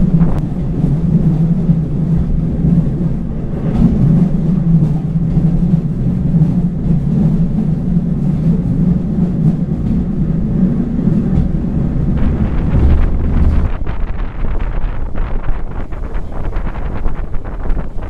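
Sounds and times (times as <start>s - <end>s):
train running inside carriage: 0.0s - 18.0s.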